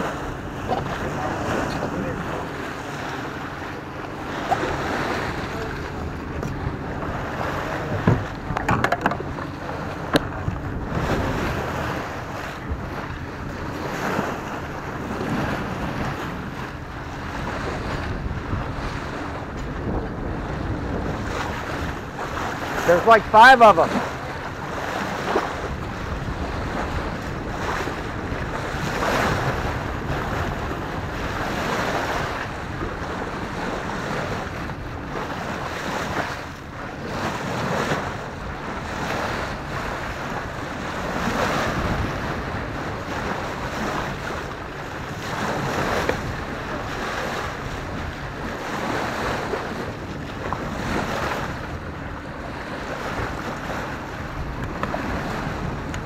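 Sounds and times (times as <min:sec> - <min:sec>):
water rushing along a hull: 0:00.0 - 0:56.0
wind buffeting microphone: 0:00.0 - 0:56.0.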